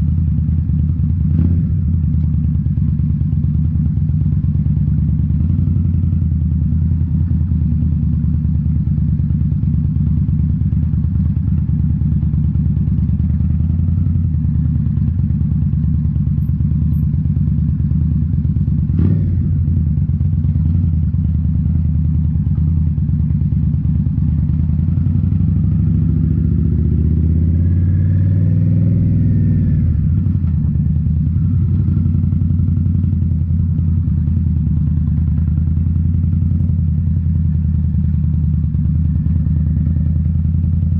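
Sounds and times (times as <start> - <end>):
motorcycle engine exhaust: 0.0 - 40.9.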